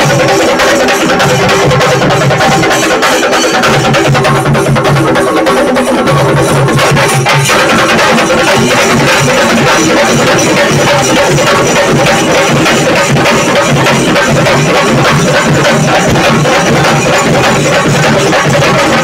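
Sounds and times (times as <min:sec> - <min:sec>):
drums played in fast rhythm: 0:00.0 - 0:19.0.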